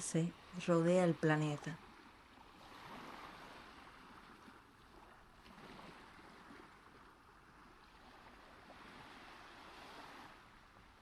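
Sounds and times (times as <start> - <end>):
ocean surf waves: 0.0 - 11.0.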